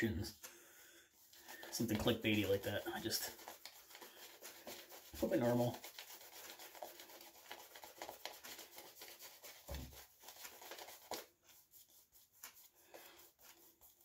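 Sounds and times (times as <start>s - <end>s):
shaving brush swishing on scalp: 1.2s - 14.0s.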